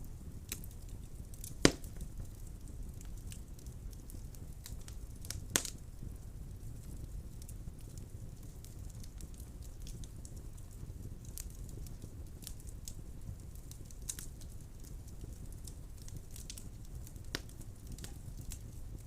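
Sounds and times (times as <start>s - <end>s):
burning logs crackling: 0.0s - 19.0s
low rumble of flames: 0.0s - 19.0s.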